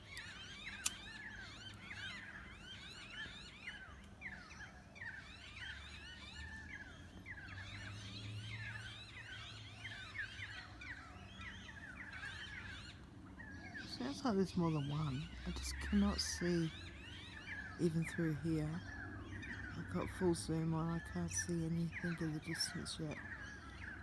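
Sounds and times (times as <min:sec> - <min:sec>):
birds calling in chorus: 0:00.0 - 0:24.0.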